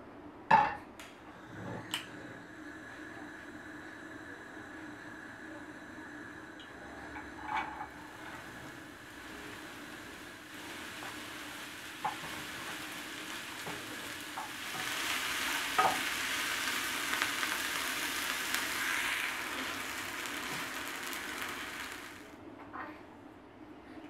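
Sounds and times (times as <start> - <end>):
onions sizzling in frying pan: 2.6 - 22.4.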